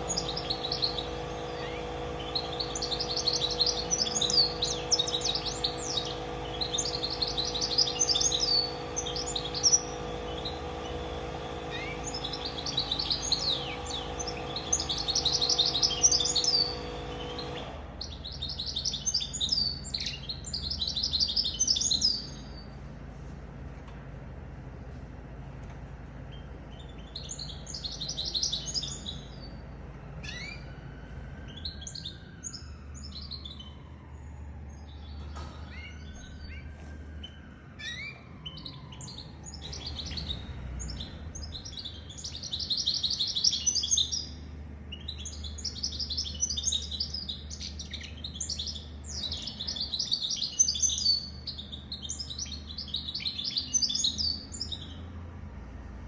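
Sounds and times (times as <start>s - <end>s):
bird twittering song: 0.0s - 22.8s, 25.6s - 55.2s.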